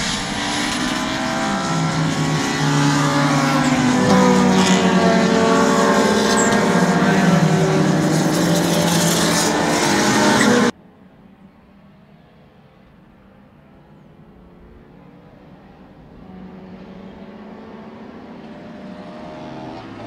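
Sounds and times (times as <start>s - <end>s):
racing cars driving past: 0.0s - 20.0s.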